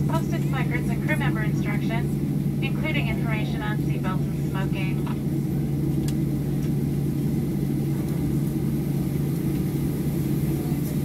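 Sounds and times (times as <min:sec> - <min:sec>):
jet engines idling in cabin: 0:00.0 - 0:11.0
steady low hum: 0:00.0 - 0:11.0.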